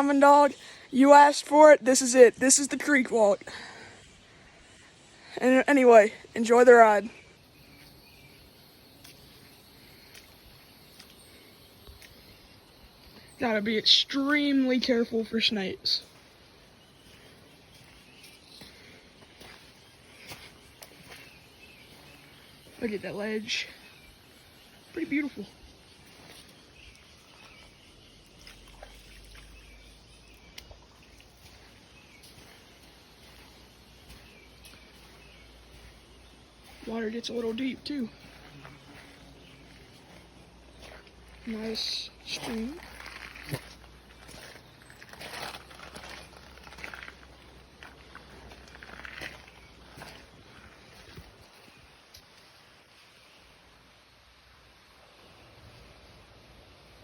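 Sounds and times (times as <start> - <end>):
bird chirping: 0.0 - 52.5
faint outdoor background noise: 0.0 - 57.0.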